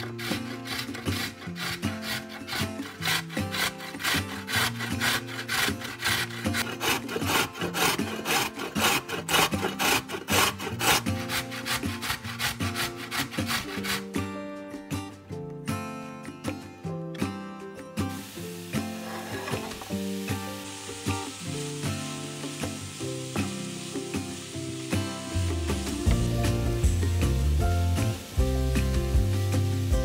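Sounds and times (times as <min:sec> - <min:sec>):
rhythmic rasping food preparation: 0:00.0 - 0:14.4, 0:18.1 - 0:30.0
soft guitar music: 0:00.0 - 0:30.0.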